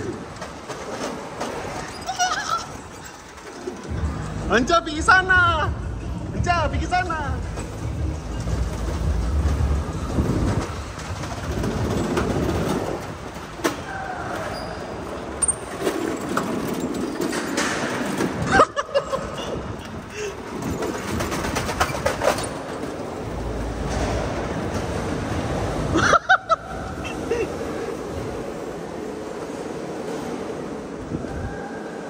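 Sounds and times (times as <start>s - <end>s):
go-kart motor and tyres rumbling: 0.0s - 32.0s.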